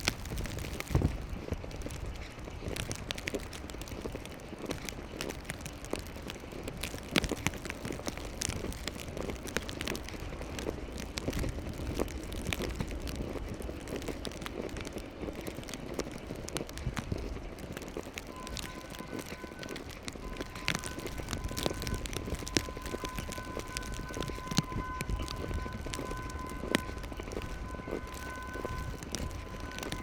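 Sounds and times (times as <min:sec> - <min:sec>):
footsteps in snow: 0:00.0 - 0:30.0
traffic noise: 0:00.0 - 0:30.0
wind rumble: 0:00.0 - 0:30.0.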